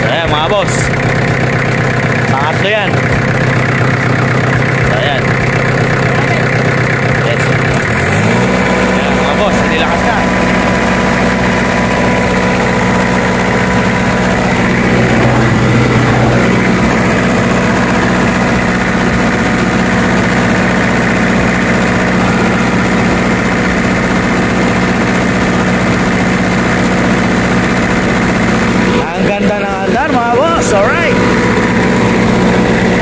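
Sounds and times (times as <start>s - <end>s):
diesel generator running: 0.0s - 33.0s.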